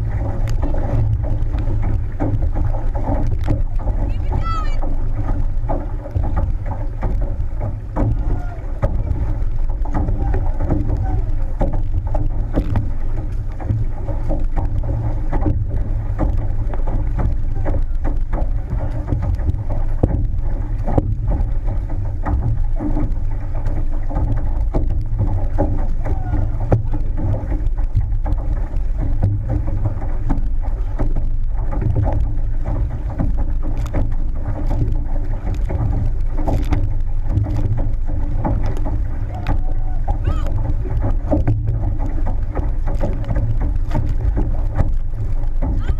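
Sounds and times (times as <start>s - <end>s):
water rushing along canoe hull: 0.0s - 45.9s
wind noise on microphone: 0.0s - 45.9s.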